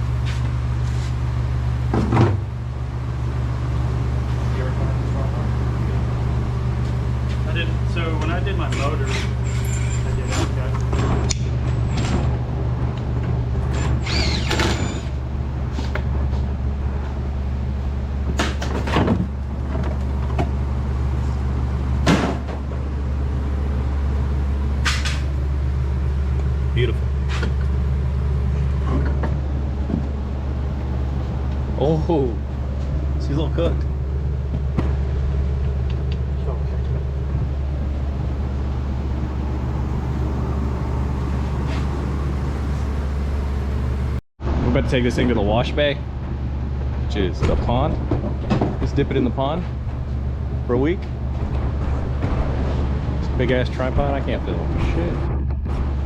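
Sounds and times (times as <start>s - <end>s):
low machine hum: 0.0s - 56.0s
low mechanical drone: 0.0s - 56.0s.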